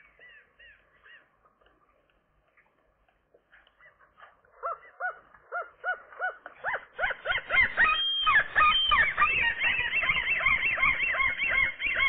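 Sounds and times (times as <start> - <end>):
gull calling: 0.0 - 1.6, 3.8 - 12.0
other gulls calling: 0.0 - 1.7, 3.6 - 12.0.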